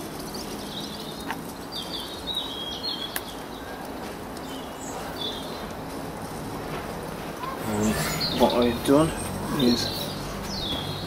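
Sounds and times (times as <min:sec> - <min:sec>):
small birds chirping: 0:00.0 - 0:06.4, 0:07.4 - 0:11.0
outdoor background noise: 0:00.0 - 0:11.0.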